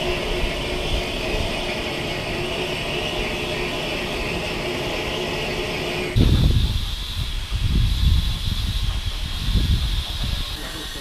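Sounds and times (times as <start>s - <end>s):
steam hissing and roaring: 0.0s - 11.0s.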